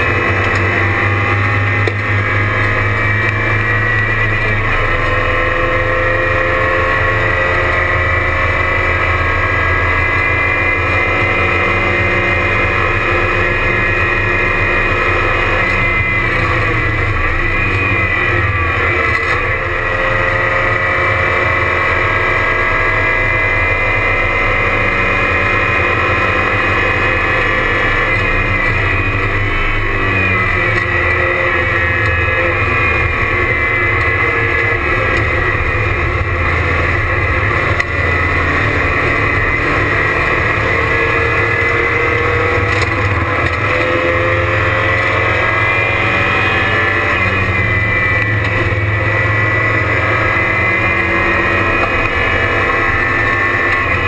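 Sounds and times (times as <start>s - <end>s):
race car engine running hard: 0.0s - 54.0s
road and wind noise: 0.0s - 54.0s.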